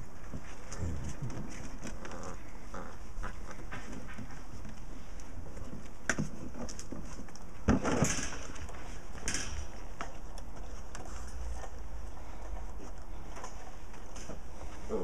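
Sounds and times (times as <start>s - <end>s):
dogs scuffling: 0.0s - 15.0s.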